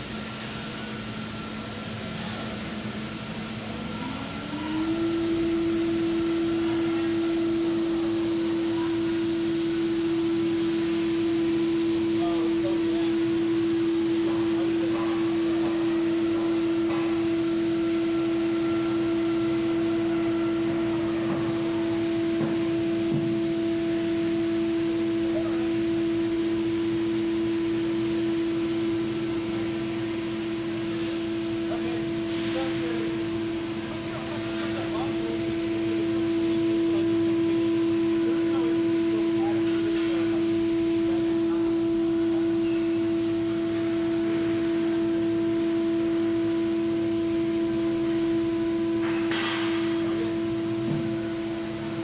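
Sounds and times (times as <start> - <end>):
cnc router whining: 0.0 - 52.0.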